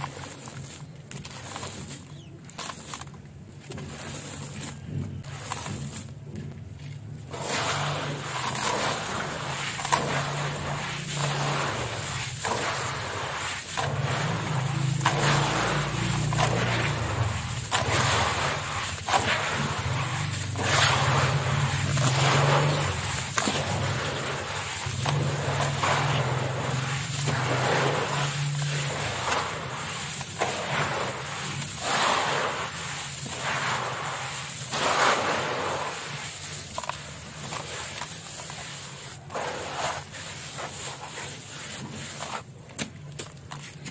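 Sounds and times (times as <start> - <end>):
hands crumbling wet sand: 0.0 - 43.9.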